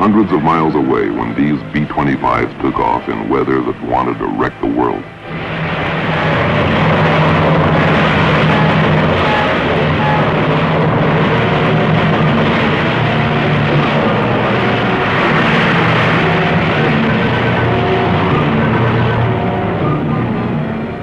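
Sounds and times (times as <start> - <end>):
piston aircraft engines droning: 0.0 - 21.0.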